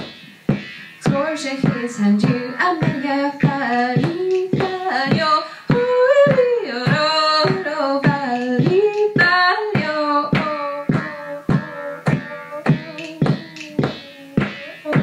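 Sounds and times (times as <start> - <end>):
percussive beat: 0.0 - 15.0
woman singing into microphone: 1.0 - 15.0.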